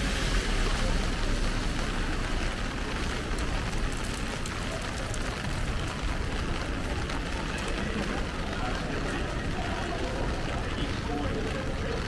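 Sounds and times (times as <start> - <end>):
rain tapping on umbrella: 0.0 - 12.0
traffic on wet street: 0.0 - 12.0.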